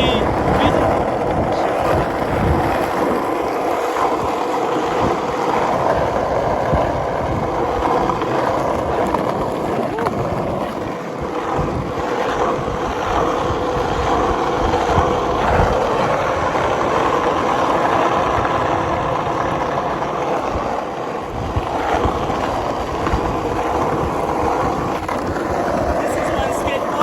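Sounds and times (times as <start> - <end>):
skateboard wheels rolling on pavement: 0.0 - 27.0
wind buffeting microphone: 0.0 - 27.0.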